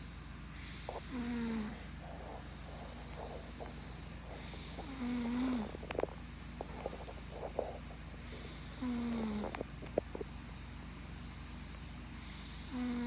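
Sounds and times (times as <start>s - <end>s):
young child snoring: 0.6s - 10.8s, 11.6s - 13.0s
small clicks and breath noises: 1.8s - 12.6s.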